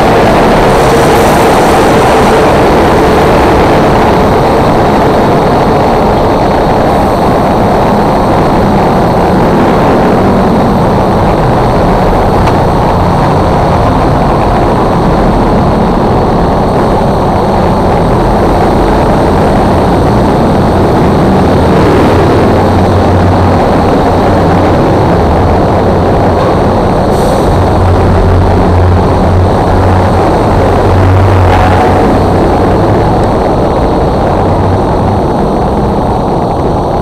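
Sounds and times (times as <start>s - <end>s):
motorcycle engine hum: 0.0s - 37.0s
passing traffic: 0.0s - 37.0s
wind noise: 0.0s - 37.0s.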